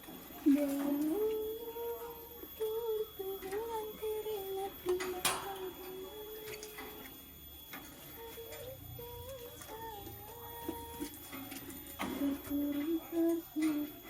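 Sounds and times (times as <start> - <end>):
person humming a tune: 0.4 - 7.1, 7.9 - 14.0.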